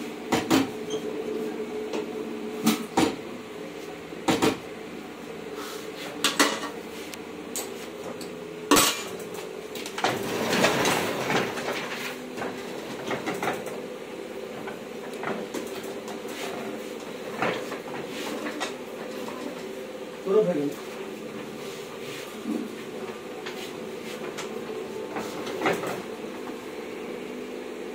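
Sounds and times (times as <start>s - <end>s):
printing press humming: 0.0s - 27.9s.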